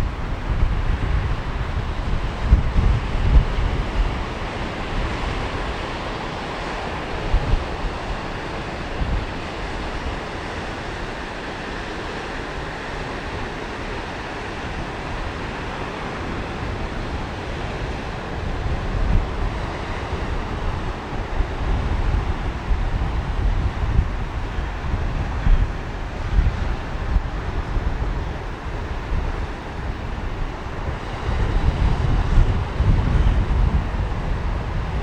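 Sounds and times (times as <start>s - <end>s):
sea surf washing onto beach: 0.0s - 35.0s
wind buffeting microphone: 0.0s - 35.0s.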